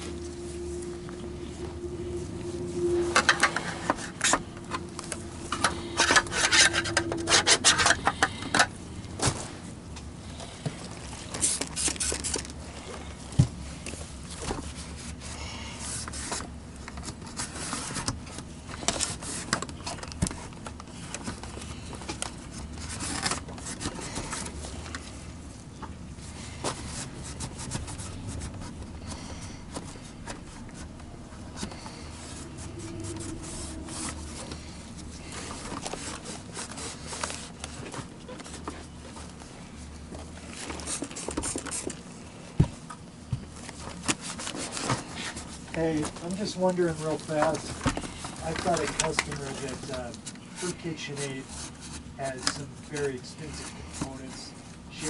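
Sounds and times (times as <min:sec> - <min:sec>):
vacuum parts scraping and clicking: 0:00.0 - 0:13.1, 0:13.8 - 0:42.1, 0:43.6 - 0:55.0.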